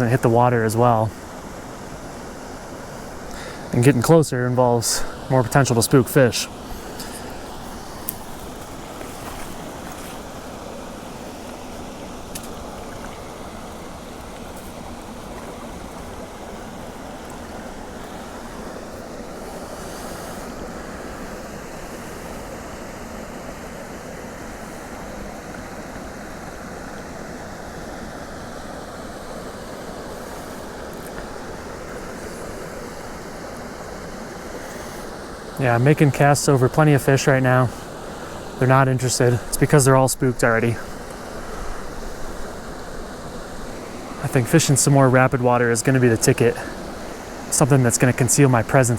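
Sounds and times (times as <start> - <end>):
creek water running: 0.0 - 48.9.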